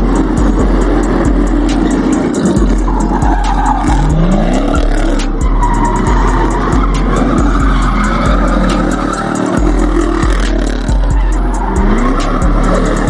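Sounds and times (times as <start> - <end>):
car engine running: 0.0 - 13.0
car tyres squealing: 0.0 - 13.0
music with heavy bass beat: 0.0 - 13.0.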